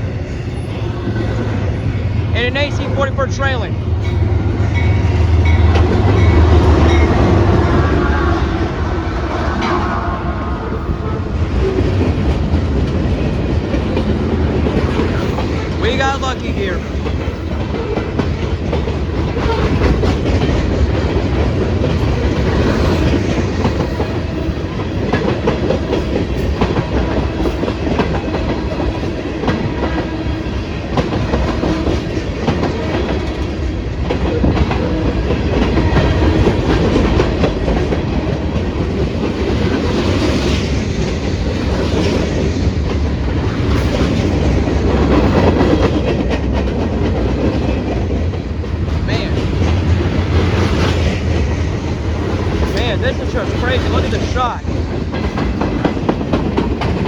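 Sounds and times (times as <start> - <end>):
freight train rumbling past: 0.0 - 57.0
train wheels clicking over rail joints: 3.9 - 7.7, 11.4 - 57.0.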